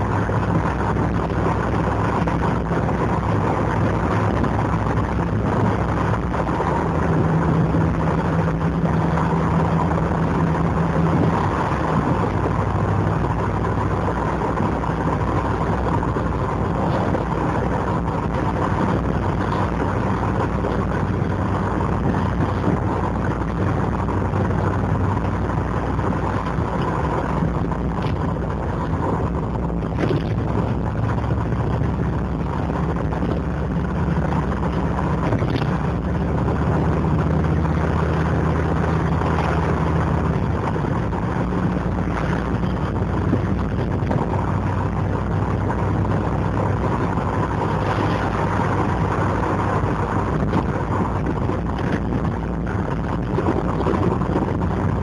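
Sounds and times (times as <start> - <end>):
car engine burbling from inside: 0.0 - 55.0.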